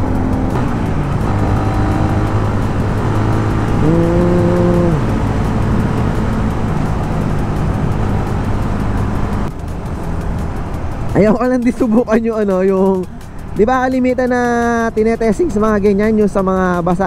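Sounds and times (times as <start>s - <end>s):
motorcycle engine running: 0.0s - 16.8s
road and wind noise: 0.0s - 17.0s.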